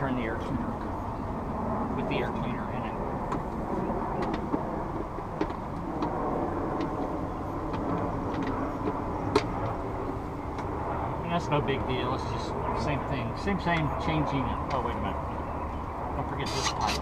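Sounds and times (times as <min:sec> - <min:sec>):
low vehicle rumble: 0:00.0 - 0:16.4.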